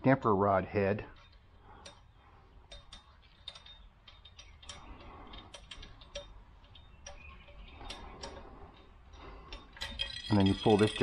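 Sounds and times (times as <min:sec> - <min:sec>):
metallic clicks and taps: 0:01.1 - 0:11.0.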